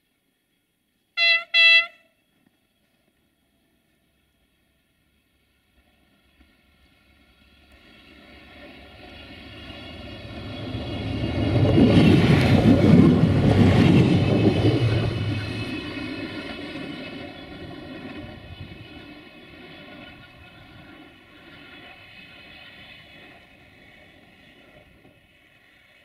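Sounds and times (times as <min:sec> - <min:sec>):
train engine drone: 0:00.0 - 0:26.0
wheel and rail noise: 0:00.0 - 0:26.0.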